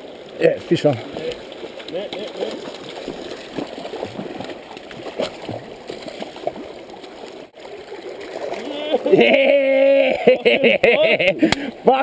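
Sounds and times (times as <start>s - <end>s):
creek gurgling over stones: 0.0s - 10.6s.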